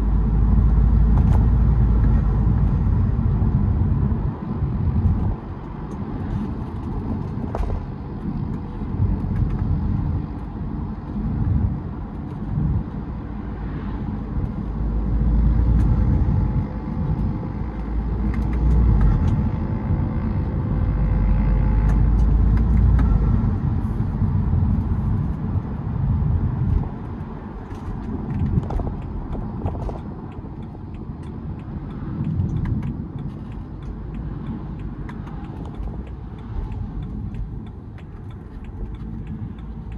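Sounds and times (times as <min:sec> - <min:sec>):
car engine rumble while driving: 0:00.0 - 0:39.9.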